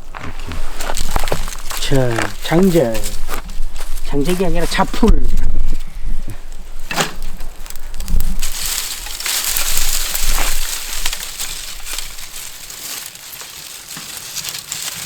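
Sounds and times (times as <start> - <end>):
dry brushwood crunching: 0.0 - 15.0.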